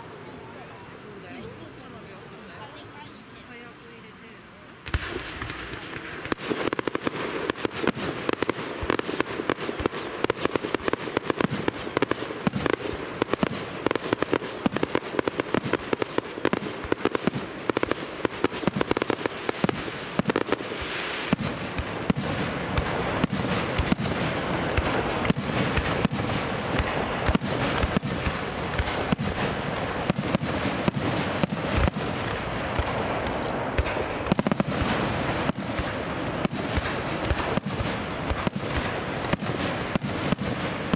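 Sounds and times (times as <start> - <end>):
fireworks crackling: 0.0 - 40.9
firework shell bursts: 4.7 - 40.9.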